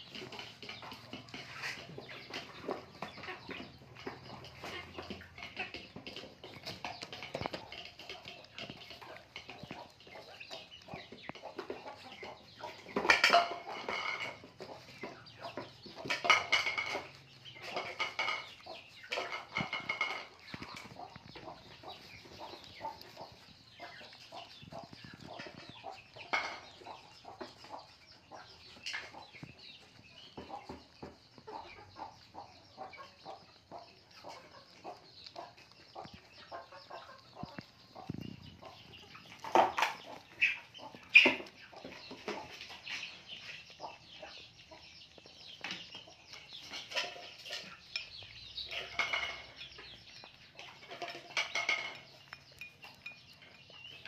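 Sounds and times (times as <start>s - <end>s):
puppies chewing and smacking: 0.0s - 54.0s.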